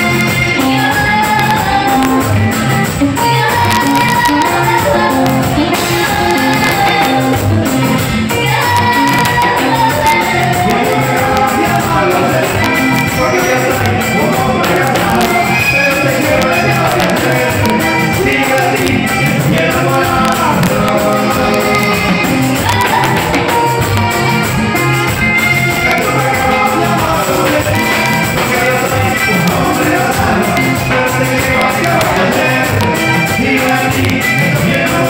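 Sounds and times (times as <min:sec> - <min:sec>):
latin dance music: 0:00.0 - 0:35.0
person singing: 0:00.0 - 0:35.0.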